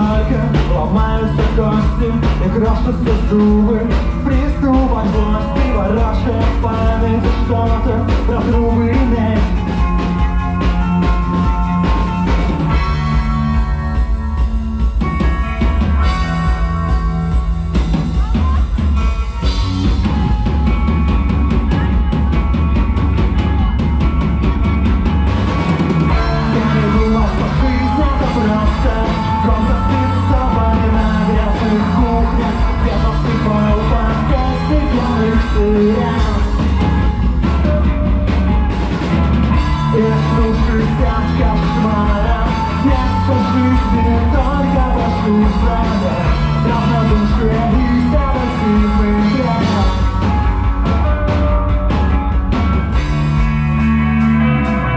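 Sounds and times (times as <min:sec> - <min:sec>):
loud drum kit: 0:00.0 - 0:54.9
rock band playing live: 0:00.0 - 0:54.9.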